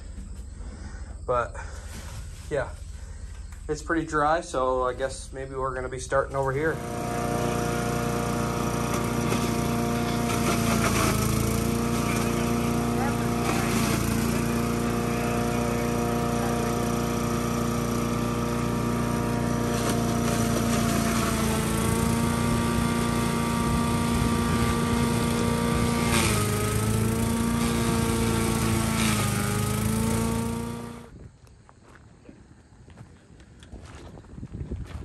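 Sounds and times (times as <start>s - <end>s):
chipper-shredder engine running: 1.6s - 31.1s.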